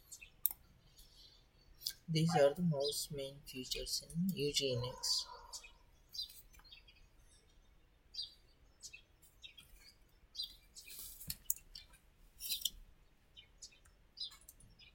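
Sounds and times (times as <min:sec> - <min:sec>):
faint bird chirps: 0:00.0 - 0:14.9.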